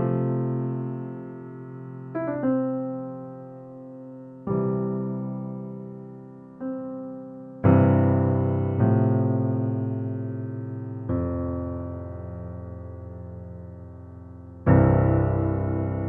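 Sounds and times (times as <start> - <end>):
slow soft piano chords: 0.0 - 16.0.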